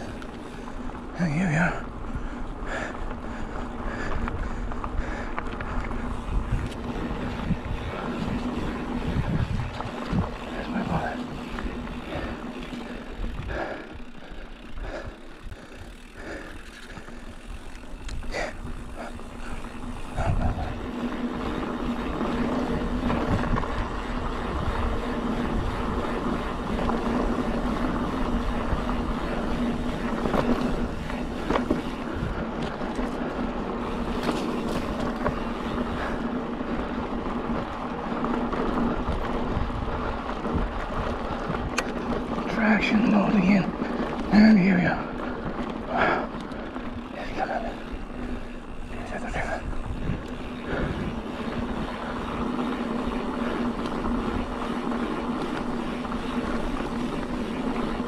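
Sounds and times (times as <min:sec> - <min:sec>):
bike tyre noise on dirt: 0:00.0 - 0:58.0
bike rattles and knocks: 0:02.3 - 0:58.0.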